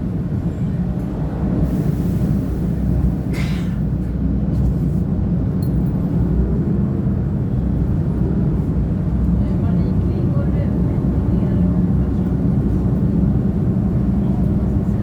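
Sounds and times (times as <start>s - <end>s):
railcar engine rumble: 0.0s - 15.0s.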